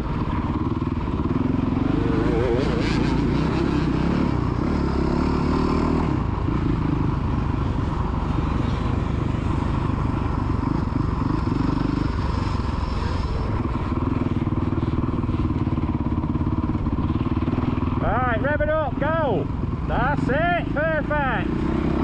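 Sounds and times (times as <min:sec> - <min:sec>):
motocross bike engine revving: 0:00.1 - 0:07.2, 0:11.0 - 0:22.0.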